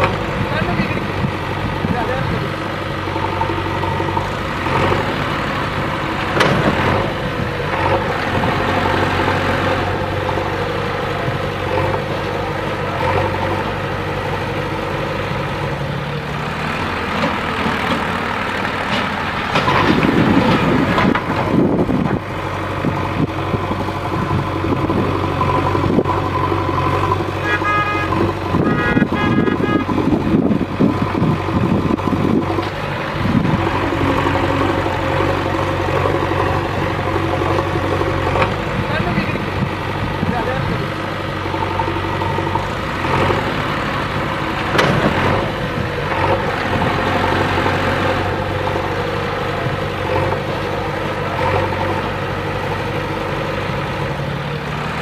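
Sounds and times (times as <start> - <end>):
diesel engine of backhoe loader: 0.0 - 55.0.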